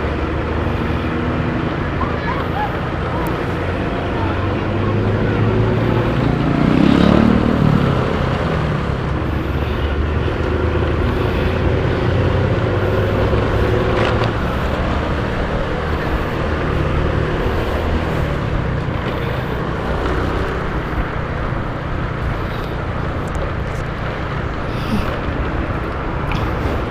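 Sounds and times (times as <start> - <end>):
bus engine and exhaust running: 0.0 - 26.9.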